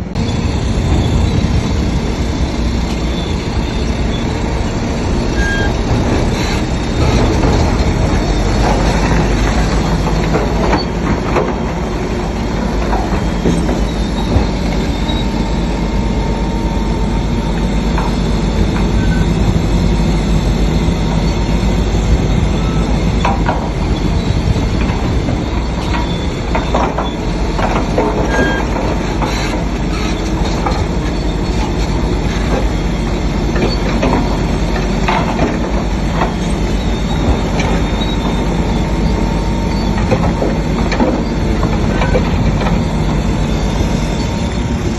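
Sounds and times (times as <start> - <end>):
diesel engine under load: 0.0 - 44.9
steel tracks clanking and squealing: 0.0 - 44.9.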